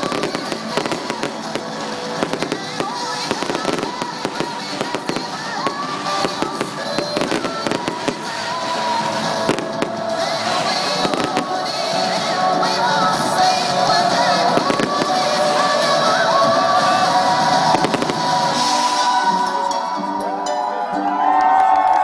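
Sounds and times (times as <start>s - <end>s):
fireworks banging and crackling: 0.0s - 19.1s
music playing: 0.0s - 22.0s.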